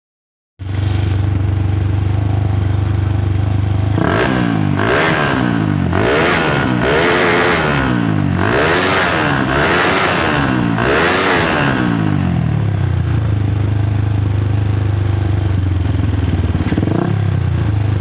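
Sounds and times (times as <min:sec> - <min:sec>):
motorcycle engine idling and revving: 0:00.6 - 0:18.0.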